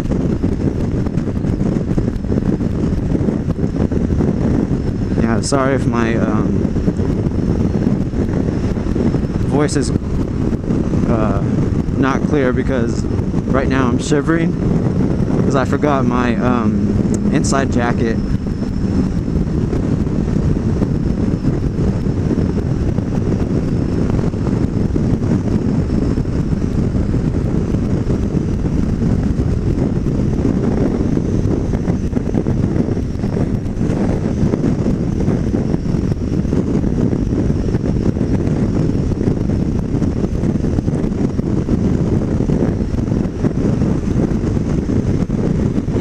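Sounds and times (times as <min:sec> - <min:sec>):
road noise: 0:00.0 - 0:46.0
scooter engine drone: 0:00.0 - 0:46.0
wind buffeting microphone: 0:00.0 - 0:46.0.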